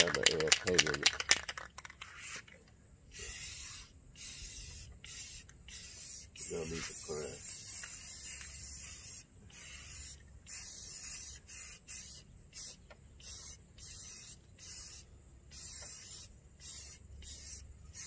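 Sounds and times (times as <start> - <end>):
aerosol can spraying: 2.0 - 2.5, 3.1 - 18.0.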